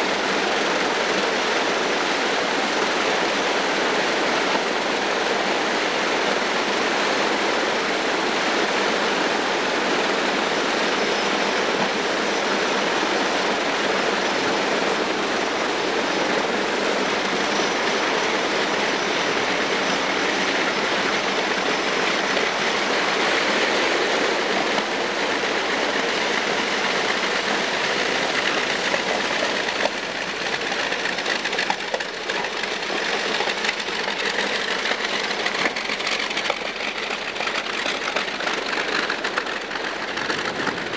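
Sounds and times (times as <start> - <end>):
radial aircraft engines roaring: 0.0 - 40.9.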